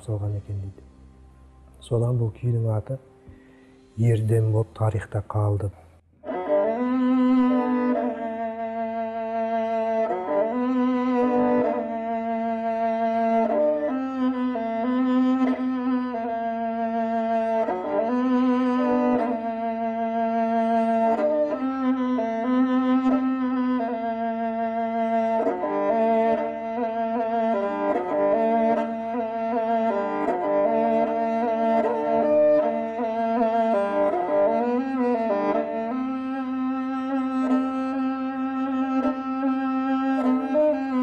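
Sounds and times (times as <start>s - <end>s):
bowed string instrument melody: 0.0s - 41.0s.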